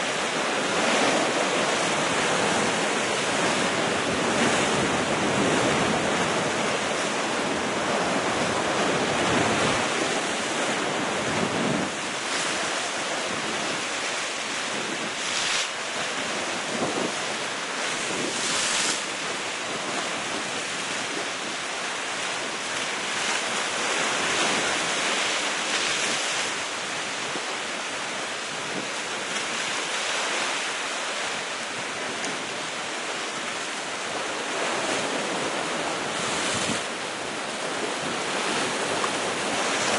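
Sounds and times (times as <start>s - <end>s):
waves crashing on rocks: 0.0s - 39.9s
wind on microphone: 0.1s - 39.9s.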